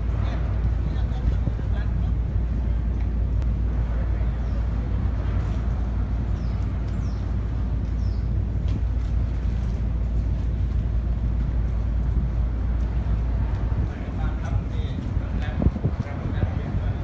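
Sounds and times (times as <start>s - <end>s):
ferry engine rumble: 0.0s - 17.0s.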